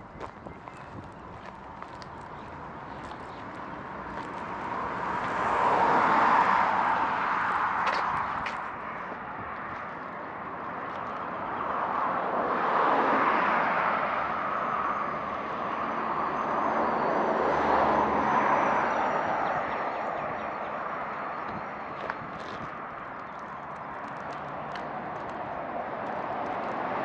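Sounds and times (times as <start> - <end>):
passing motor traffic: 0.0 - 27.0.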